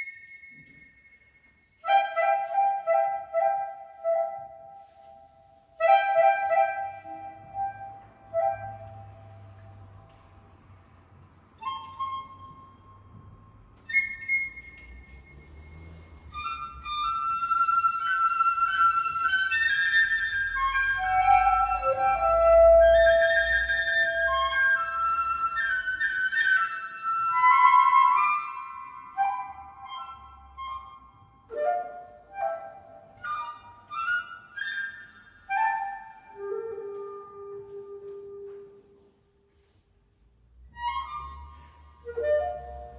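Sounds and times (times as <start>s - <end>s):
flute and clarinets playing: 1.8s - 9.9s, 11.6s - 13.1s, 13.8s - 15.5s, 16.3s - 39.1s, 40.7s - 42.9s.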